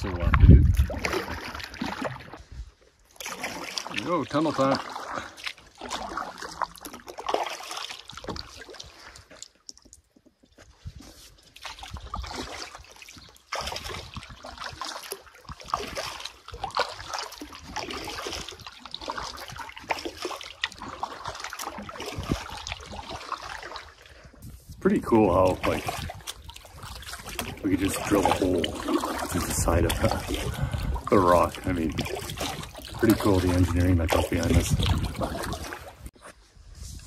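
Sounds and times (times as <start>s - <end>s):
water trickling off paddle: 0.0s - 36.2s
paddle strokes splashing: 0.0s - 36.3s.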